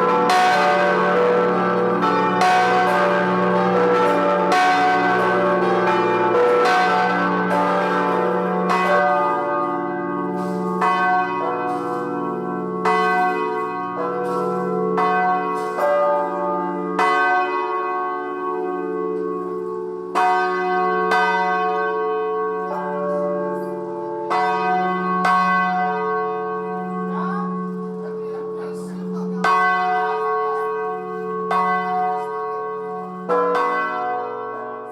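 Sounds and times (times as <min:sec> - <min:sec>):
large church bells ringing: 0:00.0 - 0:34.9.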